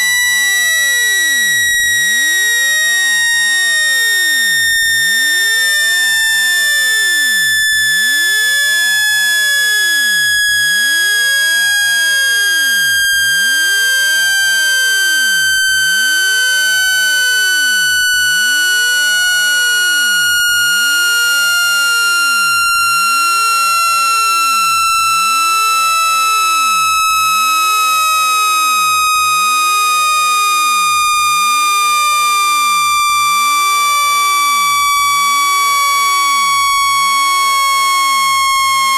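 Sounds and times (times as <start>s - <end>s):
buzzy electronic tone sweeping down: 7.4s - 38.9s.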